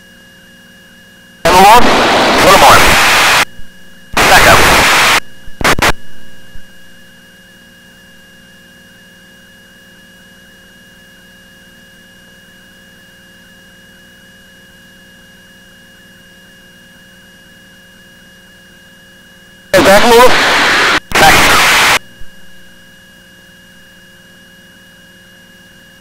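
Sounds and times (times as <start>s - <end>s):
electrical hum and whine: 0.0s - 26.0s.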